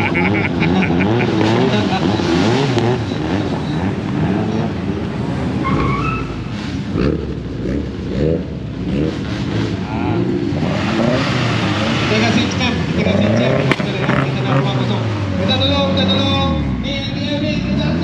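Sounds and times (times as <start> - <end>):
car engines through loud exhausts: 0.0 - 18.0.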